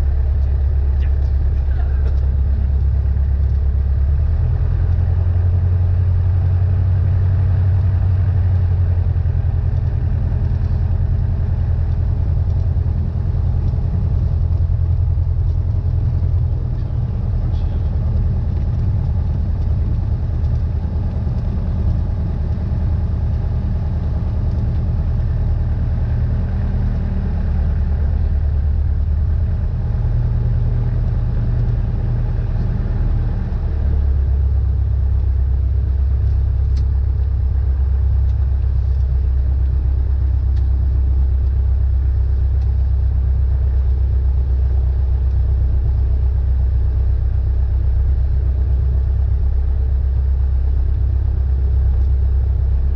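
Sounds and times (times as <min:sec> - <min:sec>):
light aircraft engine droning: 0:00.0 - 0:52.9.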